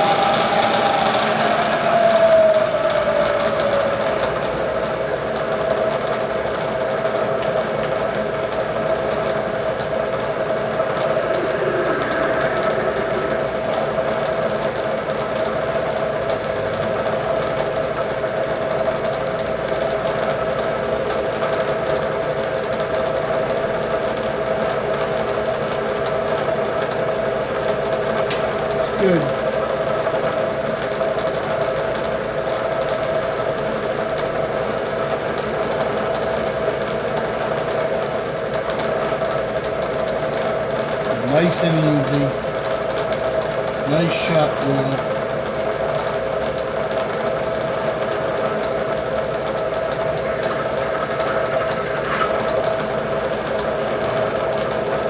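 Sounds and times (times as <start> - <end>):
milling machine whining: 0.0 - 55.0.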